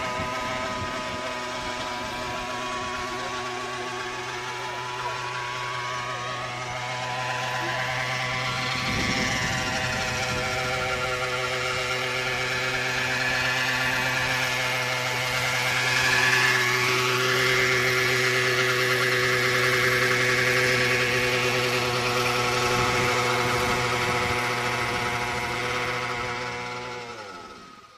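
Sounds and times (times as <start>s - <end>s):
small two-stroke engine running: 0.0s - 27.9s
wavering high whine: 0.0s - 27.9s.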